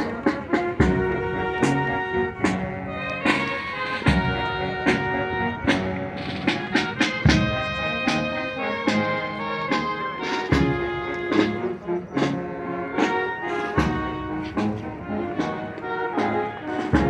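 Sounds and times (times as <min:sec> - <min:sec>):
steady drum beat: 0:00.0 - 0:12.4, 0:13.0 - 0:17.0
brass instrumental music: 0:00.0 - 0:17.0.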